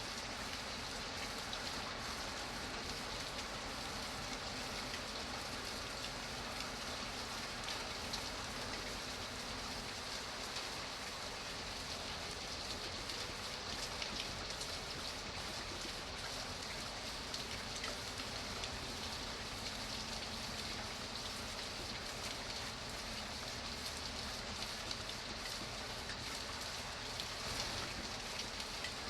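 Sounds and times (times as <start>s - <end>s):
rain pattering: 0.1s - 29.0s.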